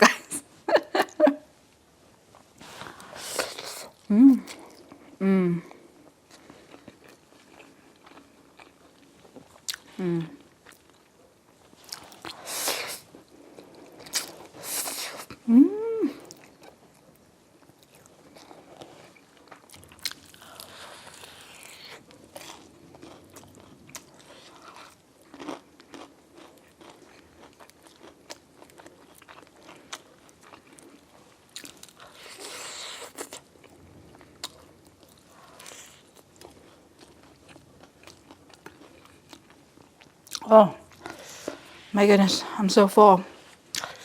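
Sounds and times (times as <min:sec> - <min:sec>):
person chewing with crunches: 0:02.2 - 0:15.5, 0:16.1 - 0:41.9, 0:43.3 - 0:44.0.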